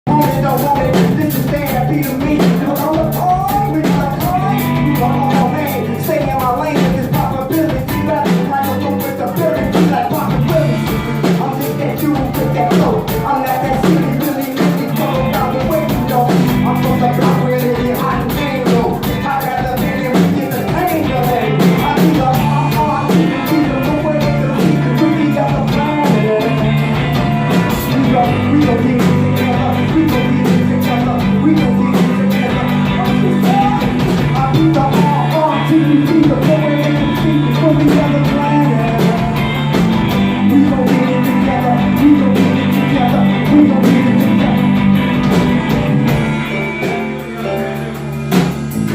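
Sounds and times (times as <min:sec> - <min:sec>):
rock music with guitar and drums: 0:00.0 - 0:48.9.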